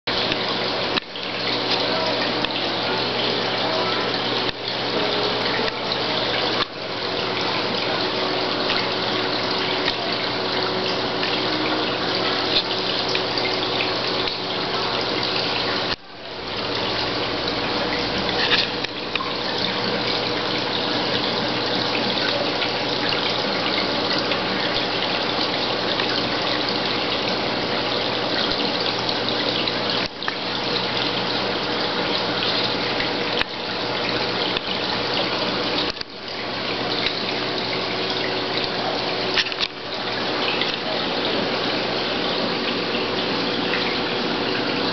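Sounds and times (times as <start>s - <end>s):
aquarium water rushing: 0.0s - 44.9s
faint steady hum: 0.1s - 44.9s.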